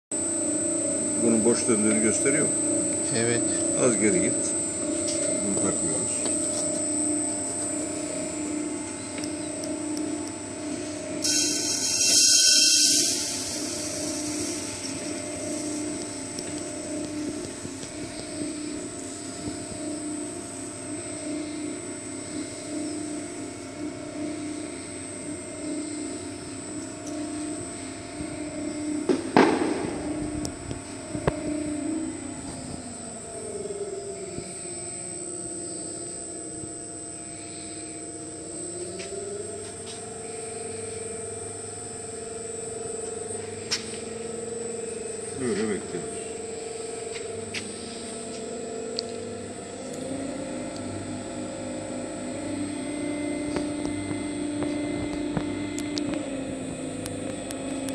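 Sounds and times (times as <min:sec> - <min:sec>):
motor hum with high whine: 0:00.1 - 0:57.9.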